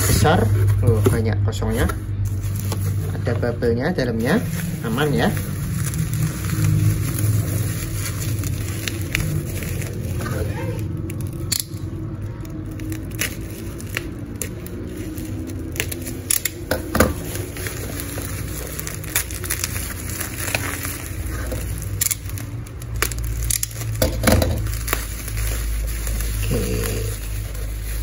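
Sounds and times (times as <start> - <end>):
bubble wrap crinkling: 0.0 - 28.0.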